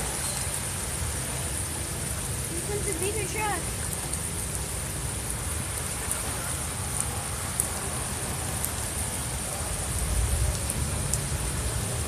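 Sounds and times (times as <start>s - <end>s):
flowing floodwater: 0.0s - 12.0s
rain hissing: 0.0s - 12.0s.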